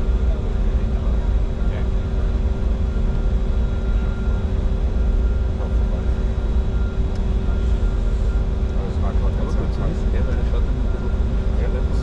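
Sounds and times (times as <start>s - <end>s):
jet cockpit rumble: 0.0s - 12.0s.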